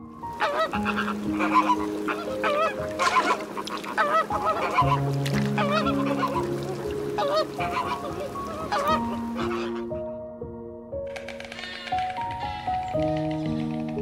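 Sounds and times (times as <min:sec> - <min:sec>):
flamingos honking: 0:00.0 - 0:10.2, 0:11.1 - 0:14.0
soft background music: 0:00.0 - 0:14.0.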